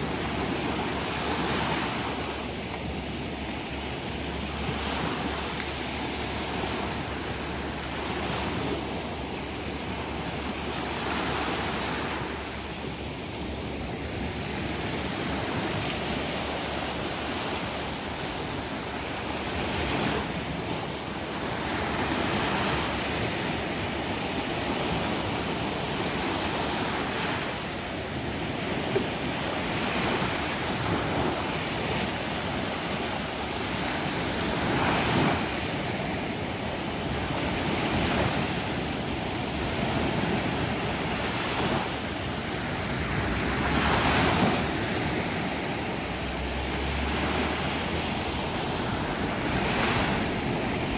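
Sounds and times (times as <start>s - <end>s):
sea waves breaking: 0.0s - 50.9s.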